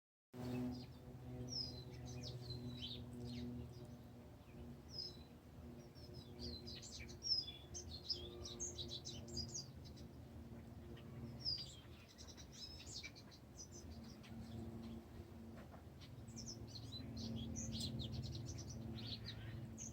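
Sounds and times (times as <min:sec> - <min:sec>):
faint low hum: 0:00.4 - 0:19.9
songbirds singing and chirping: 0:00.4 - 0:19.9.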